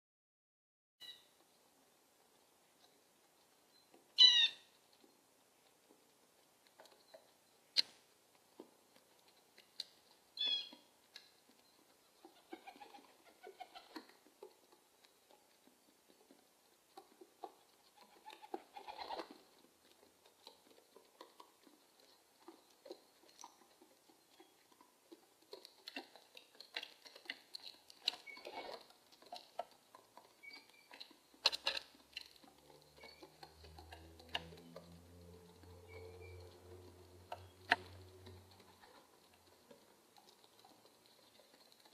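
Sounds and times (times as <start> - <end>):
birds tapping and scuffling: 1.0 - 41.9.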